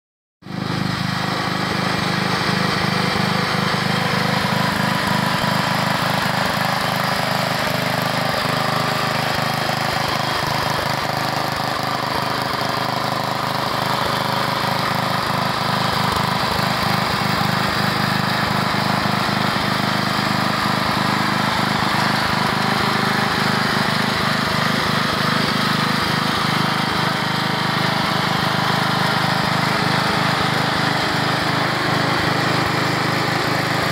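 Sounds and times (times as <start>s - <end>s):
lawn mower engine running: 0.5s - 33.9s.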